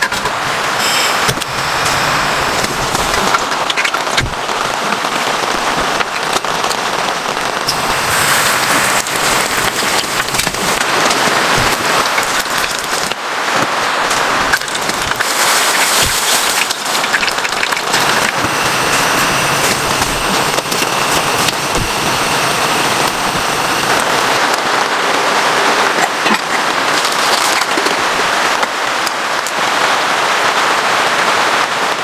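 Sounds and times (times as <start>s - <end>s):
heavy rain falling: 0.0s - 32.0s
raindrops ticking on surface: 1.3s - 32.0s.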